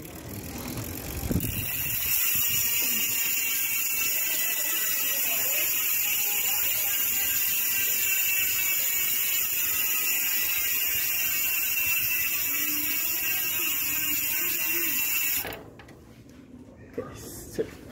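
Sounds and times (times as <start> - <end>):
bicycle freehub ratcheting buzz: 0.0 - 15.6.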